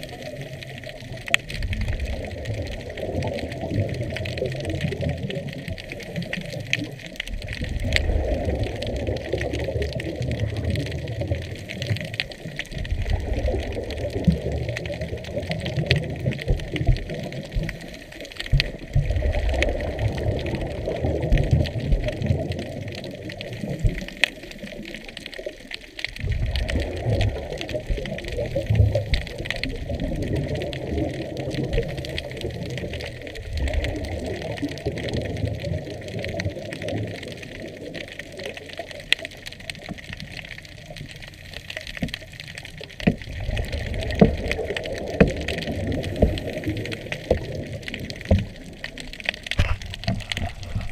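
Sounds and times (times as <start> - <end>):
regulator bubbles gurgling underwater: 0.0 - 50.9.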